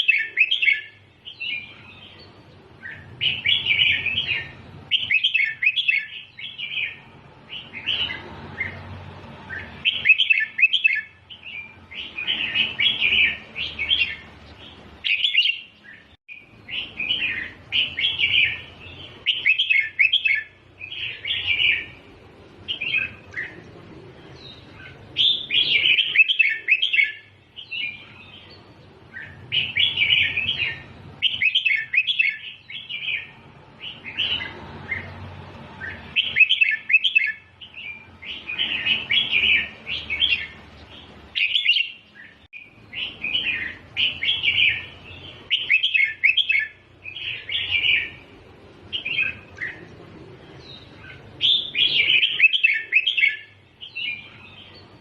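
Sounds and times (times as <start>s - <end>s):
bird singing chirping phrases: 0.0s - 55.0s.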